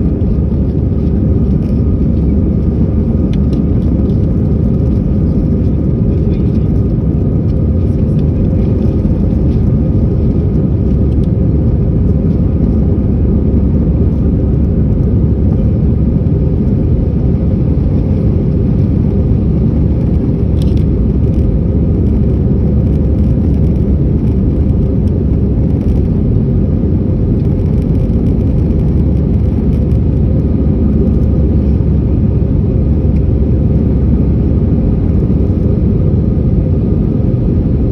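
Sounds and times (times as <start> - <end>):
aircraft cabin engine roar: 0.0 - 37.9.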